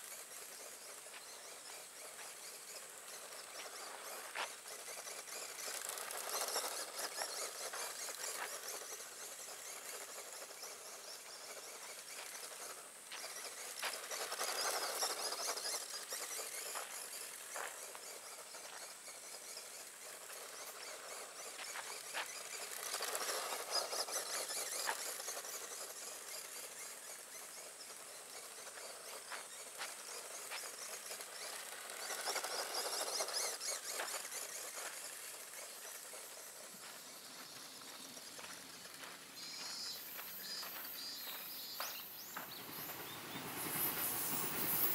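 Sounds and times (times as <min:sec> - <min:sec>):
electric rc buggy motor: 0:00.0 - 0:44.9
tyres on gravel: 0:00.0 - 0:44.9.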